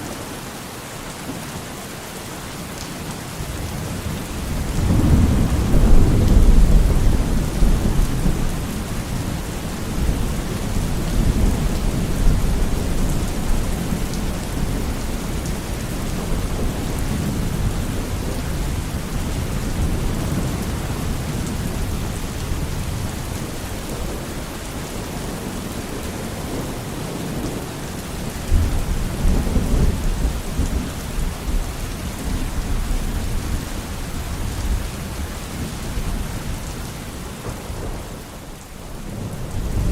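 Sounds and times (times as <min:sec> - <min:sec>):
steady rain pouring: 0:00.0 - 0:39.9.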